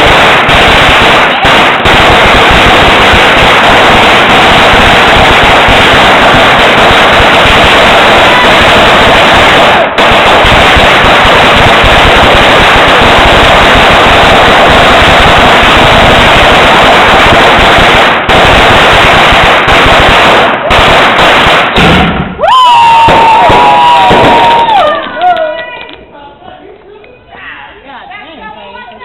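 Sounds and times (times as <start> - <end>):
firecrackers crackling: 0.0 - 26.2.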